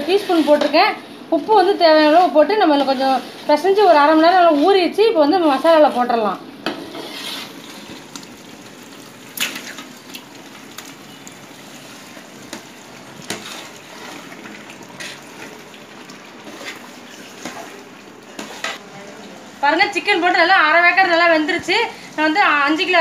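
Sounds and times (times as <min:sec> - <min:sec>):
gravy sizzling in a pot: 0:00.0 - 0:23.0.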